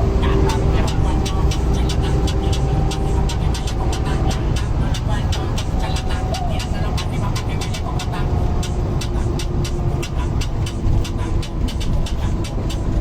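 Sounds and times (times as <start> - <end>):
diesel engine rumbling: 0.0 - 13.0
fast regular ticking: 0.0 - 13.0.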